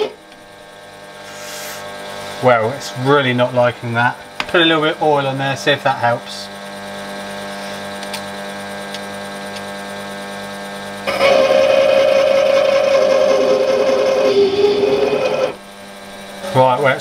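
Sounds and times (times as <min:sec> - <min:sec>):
lathe running steadily: 0:00.0 - 0:17.0.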